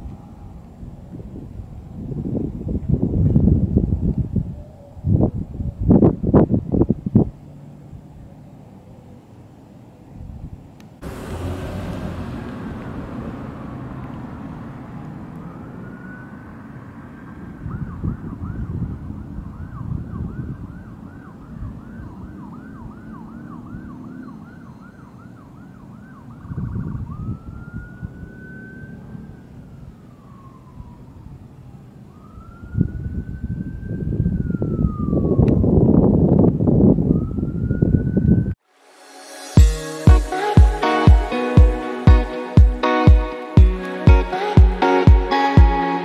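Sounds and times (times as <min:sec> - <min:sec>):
emergency vehicle siren: 0:00.0 - 0:02.1, 0:11.0 - 0:46.0.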